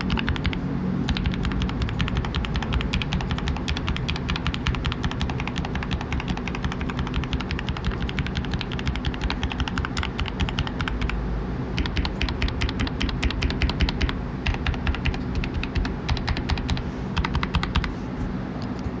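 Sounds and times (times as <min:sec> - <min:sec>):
mechanical keyboard typing: 0:00.0 - 0:11.2, 0:11.8 - 0:17.9
low steady hum: 0:00.0 - 0:19.0.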